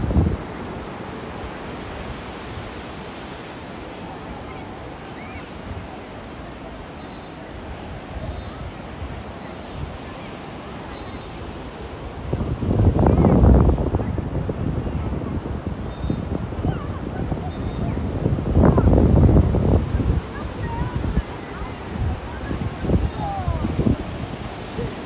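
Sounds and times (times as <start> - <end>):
waves breaking on beach: 0.0 - 25.0.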